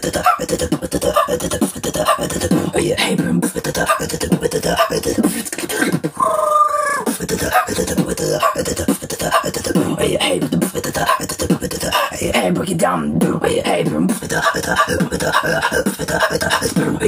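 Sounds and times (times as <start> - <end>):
beatboxing: 0.0 - 17.0
held vocal tone: 0.0 - 17.0.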